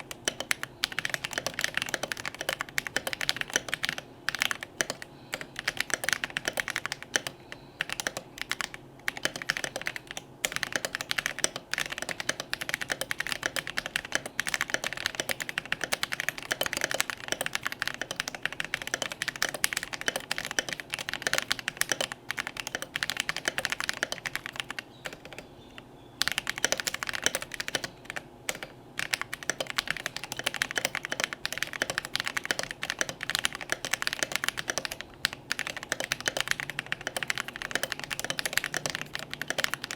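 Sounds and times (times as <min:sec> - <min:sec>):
fast mechanical keyboard typing: 0:00.0 - 0:25.5, 0:26.2 - 0:39.9.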